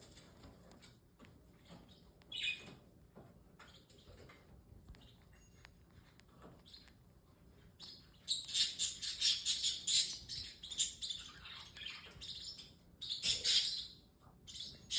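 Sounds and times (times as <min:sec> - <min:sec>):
parrotlets chirping: 0:01.6 - 0:02.8, 0:03.6 - 0:14.9.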